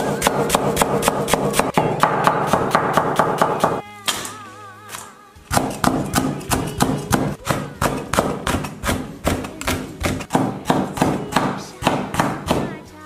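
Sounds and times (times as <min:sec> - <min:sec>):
cleaver chopping on cutting board: 0:00.2 - 0:03.8, 0:05.5 - 0:12.7.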